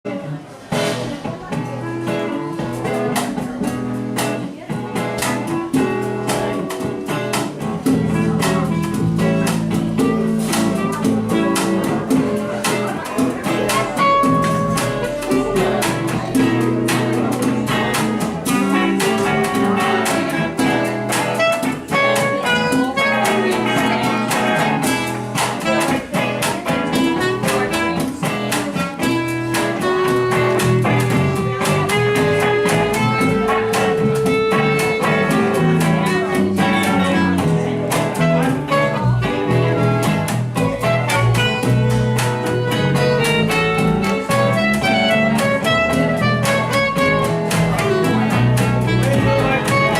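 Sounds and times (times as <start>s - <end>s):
instrumental guitar band music: 0.0s - 49.9s.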